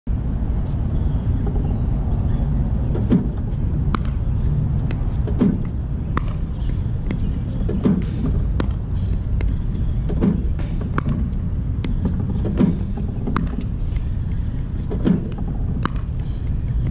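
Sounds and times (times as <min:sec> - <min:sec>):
low rumble: 0:00.1 - 0:16.9
paddle hitting ball: 0:03.0 - 0:16.9.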